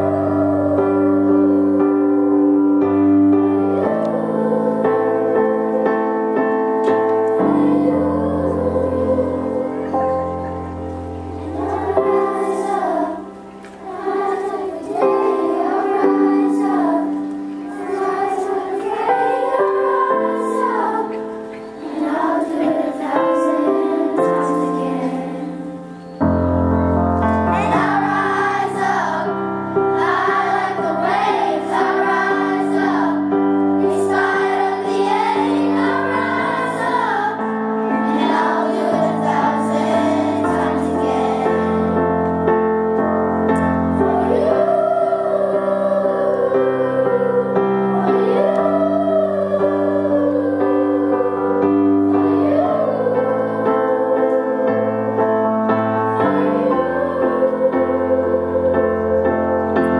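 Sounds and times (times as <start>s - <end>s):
accompaniment chords: 0.0s - 59.9s
children's choir singing: 0.0s - 59.9s.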